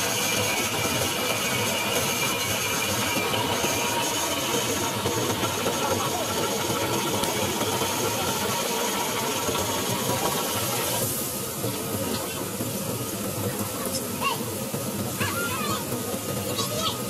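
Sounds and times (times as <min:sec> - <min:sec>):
hissing wash of water: 0:00.0 - 0:17.0.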